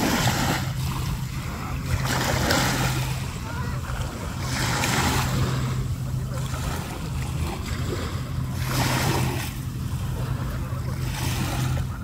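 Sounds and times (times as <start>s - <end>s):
low hum: 0.0s - 12.0s
small waves breaking on shore: 0.0s - 12.0s.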